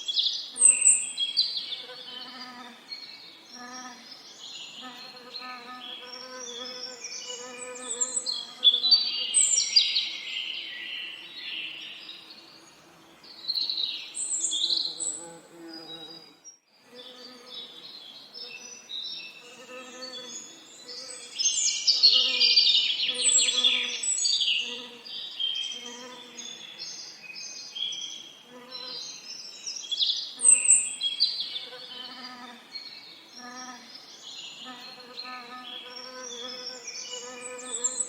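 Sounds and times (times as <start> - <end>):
songbirds singing and chirping: 0.0 - 38.0.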